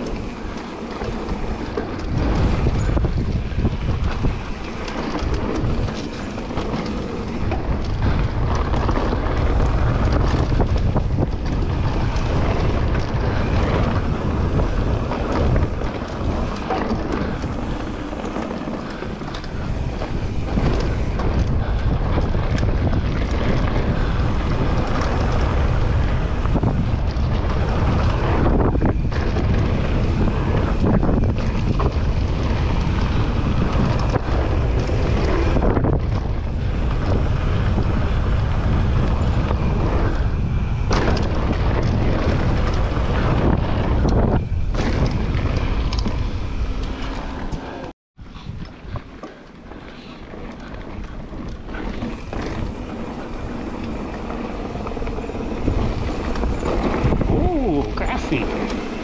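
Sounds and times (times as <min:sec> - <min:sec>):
bike knocks and rattles: 0:00.0 - 0:59.0
bike tyre noise on dirt: 0:00.0 - 0:59.0
wind buffeting microphone: 0:00.0 - 0:59.0.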